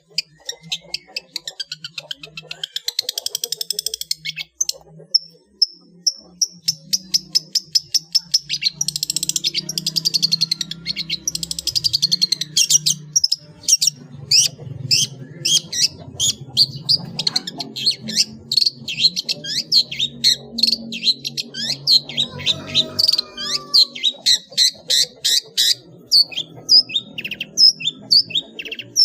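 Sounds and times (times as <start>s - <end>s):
bird singing chattering trills: 0.0s - 29.0s.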